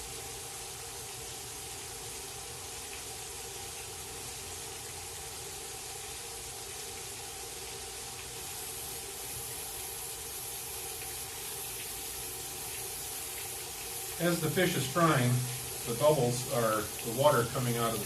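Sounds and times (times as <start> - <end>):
faint steady hum: 0.0 - 18.0
fish sizzling in a frying pan: 0.0 - 18.0.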